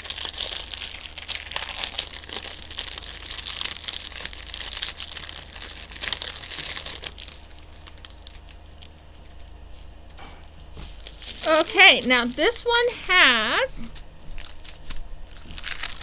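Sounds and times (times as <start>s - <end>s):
packaging crinkling: 0.0s - 9.5s, 10.9s - 12.5s, 14.2s - 16.0s.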